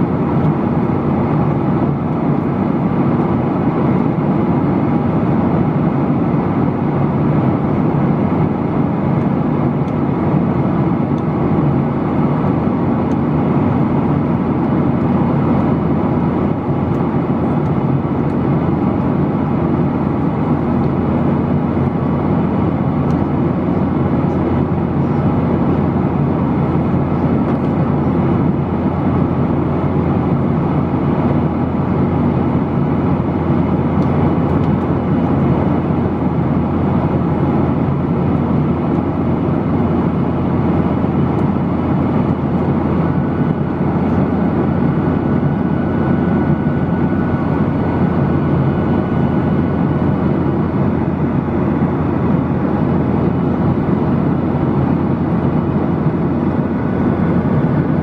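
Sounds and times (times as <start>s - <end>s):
airplane cabin rumble: 0.0s - 58.0s
jet engines humming: 0.0s - 58.0s.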